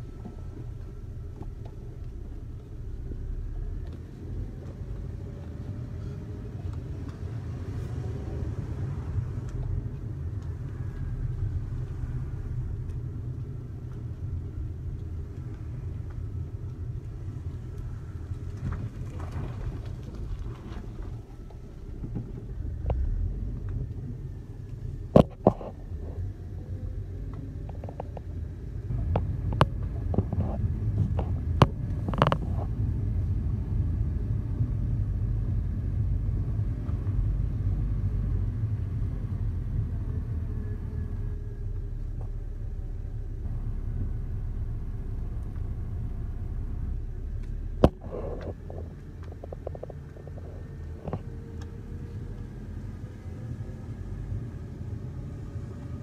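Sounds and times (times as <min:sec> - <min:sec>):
low rumble: 0:00.0 - 0:56.0.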